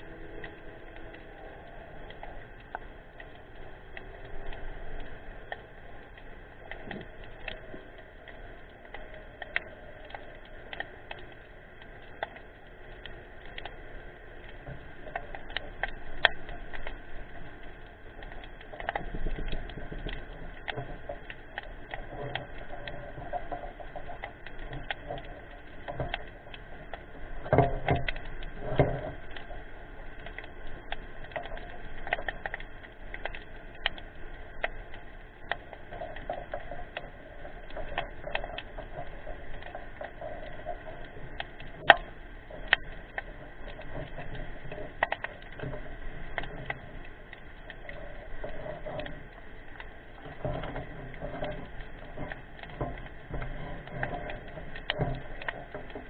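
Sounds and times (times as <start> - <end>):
steady low hiss: 0.0 - 56.0.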